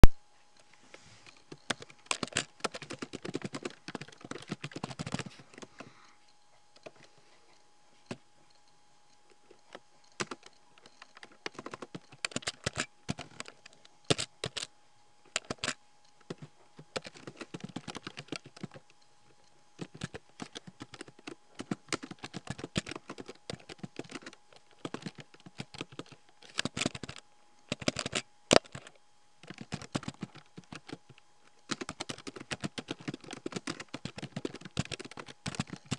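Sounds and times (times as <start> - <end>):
keyboard typing: 1.4 - 6.0, 8.1 - 14.7, 15.3 - 35.9.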